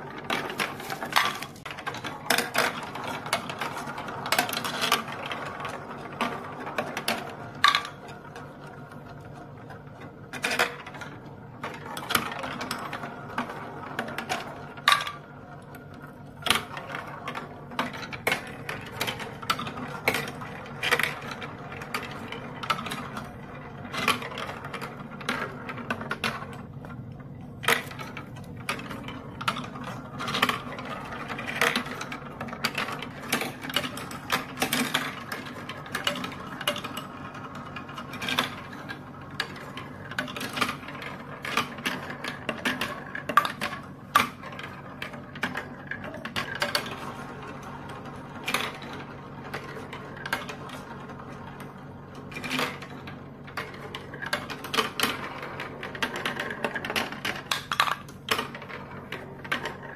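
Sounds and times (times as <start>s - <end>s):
marbles clicking on plastic: 0.0s - 59.9s
marbles rolling on plastic tracks: 0.0s - 59.9s.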